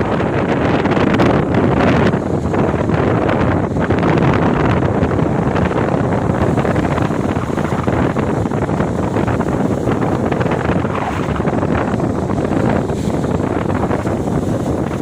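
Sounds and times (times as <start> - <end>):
ocean waves on a beach: 0.0 - 15.0
wind buffeting microphone: 0.0 - 15.0.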